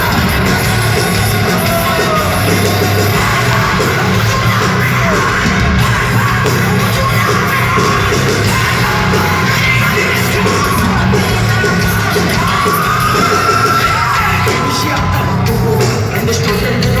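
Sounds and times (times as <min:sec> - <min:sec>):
audience yelling: 0:00.0 - 0:17.0
heavy metal band playing live: 0:00.0 - 0:17.0.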